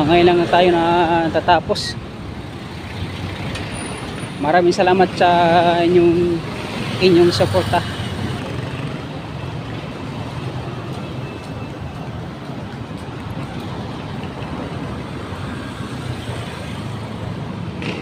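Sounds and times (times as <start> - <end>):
cars and motorcycles passing: 0.0 - 18.0.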